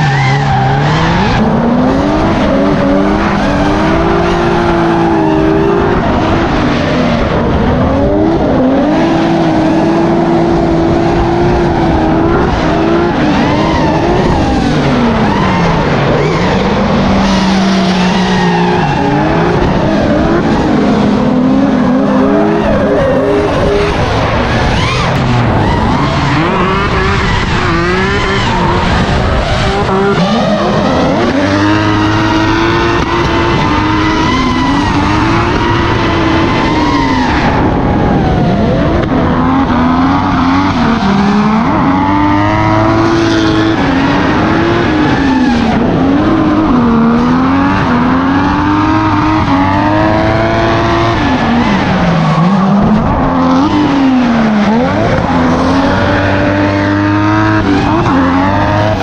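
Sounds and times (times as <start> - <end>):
car engines revving: 0.0 - 59.0
tyres skidding: 0.0 - 59.0.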